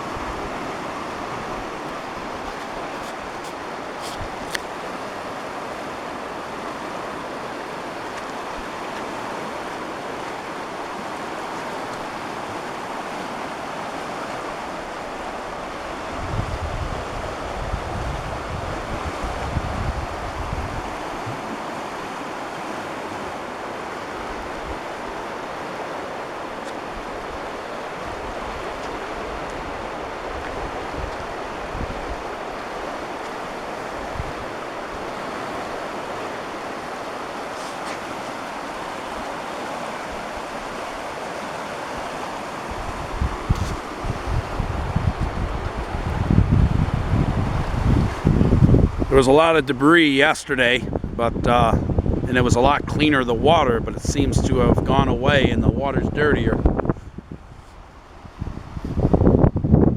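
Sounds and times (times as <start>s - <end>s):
wind buffeting microphone: 0.0s - 13.2s, 13.8s - 59.9s
creek rushing: 0.0s - 59.8s.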